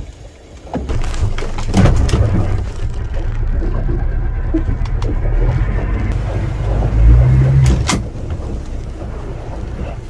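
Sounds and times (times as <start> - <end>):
water noise: 0.0 - 10.0
wind: 0.0 - 10.0
boat engine revving: 0.9 - 10.0.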